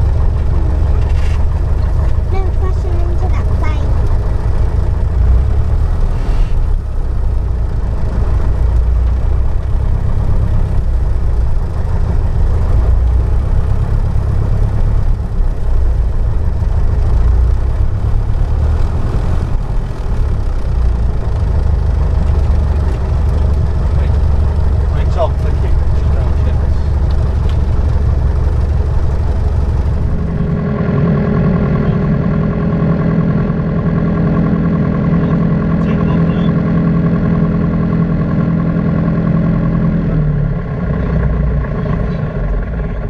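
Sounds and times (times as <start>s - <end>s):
aircraft engine low rumble: 0.0s - 43.0s.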